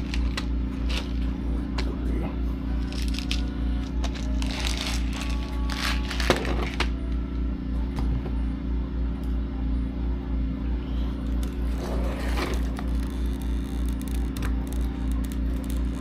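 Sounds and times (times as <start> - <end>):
low pulsing hum: 0.0 - 16.0.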